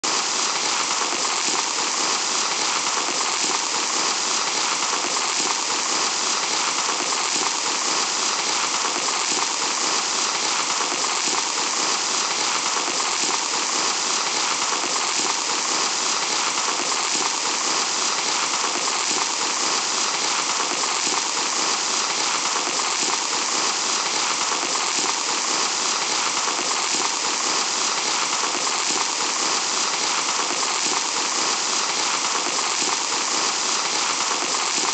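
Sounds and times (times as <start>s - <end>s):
sand pouring through hourglass: 0.0s - 34.9s.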